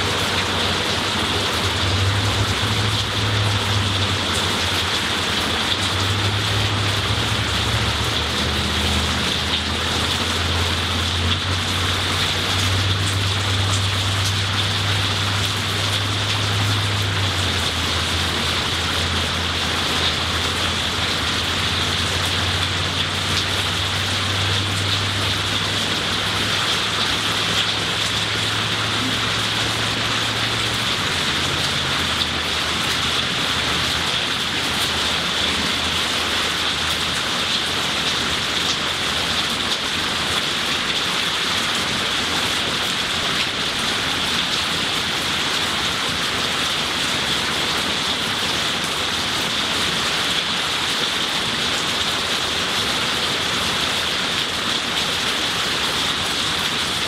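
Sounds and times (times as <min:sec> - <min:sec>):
heavy rain on foliage: 0:00.0 - 0:57.0.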